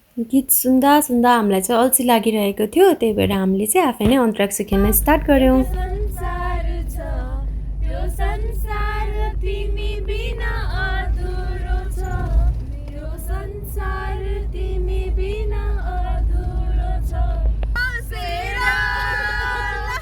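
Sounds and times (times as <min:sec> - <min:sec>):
vehicle low rumble: 0:00.0 - 0:20.0
young women singing unaccompanied: 0:03.1 - 0:20.0.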